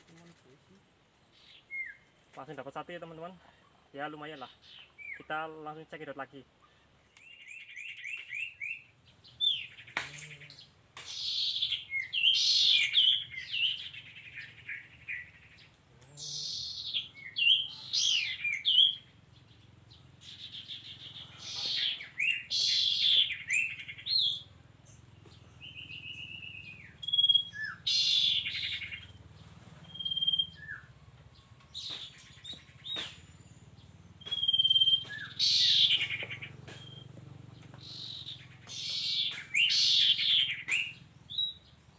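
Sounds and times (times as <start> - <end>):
bird chirps and trills: 0.0 - 41.9.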